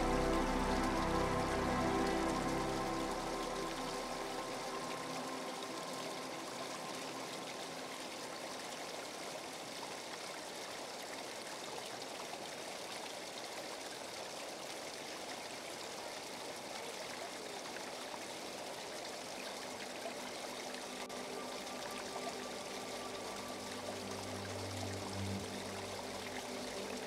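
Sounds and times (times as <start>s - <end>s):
waterfall splashing on stones: 0.0s - 27.0s.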